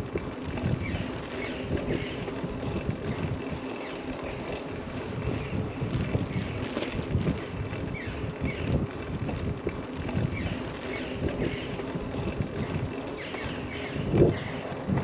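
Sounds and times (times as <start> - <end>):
wind buffeting microphone: 0.0 - 15.0
birds chirping: 0.5 - 6.8, 7.6 - 8.8, 10.0 - 15.0.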